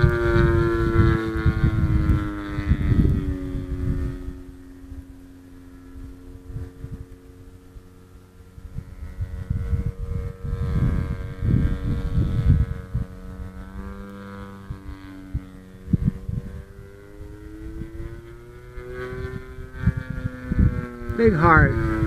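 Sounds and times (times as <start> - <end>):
model plane engine droning: 0.0 - 22.0
wind rumbling on microphone: 0.0 - 22.0.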